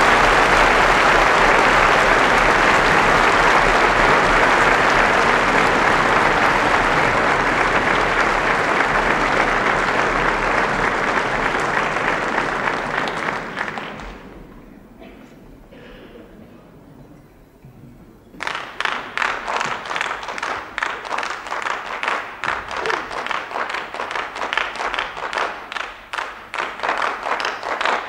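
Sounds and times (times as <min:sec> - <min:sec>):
audience applauding: 0:00.0 - 0:14.6, 0:18.4 - 0:28.0.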